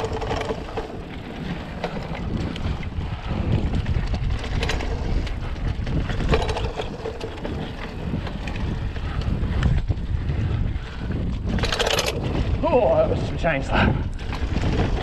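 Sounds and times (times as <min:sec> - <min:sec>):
bike rattling over bumps: 0:00.0 - 0:15.0
bike tyres rumbling on dirt: 0:00.0 - 0:15.0
wind buffeting microphone: 0:00.0 - 0:15.0.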